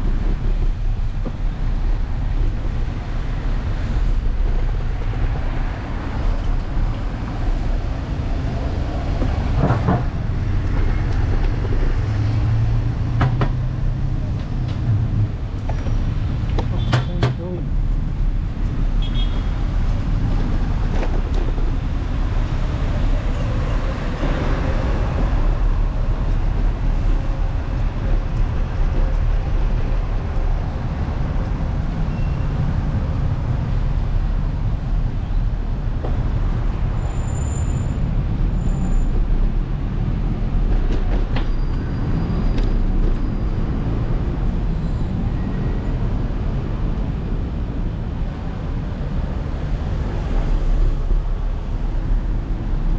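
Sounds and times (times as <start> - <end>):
road and traffic noise: 0.0 - 52.9.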